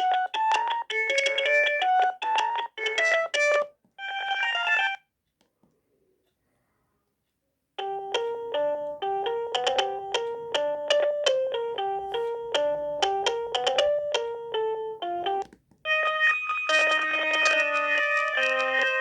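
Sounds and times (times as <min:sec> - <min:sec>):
electronic ringtone melody: 0:00.0 - 0:05.0, 0:07.8 - 0:19.0.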